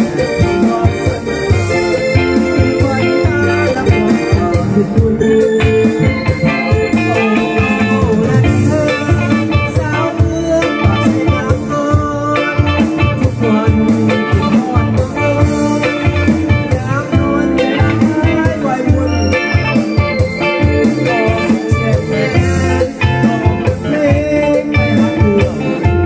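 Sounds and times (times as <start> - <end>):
electric guitar: 0.0 - 26.0
electric keyboard: 0.0 - 26.0
man singing into a microphone: 0.0 - 26.0
steady beat: 0.0 - 26.0.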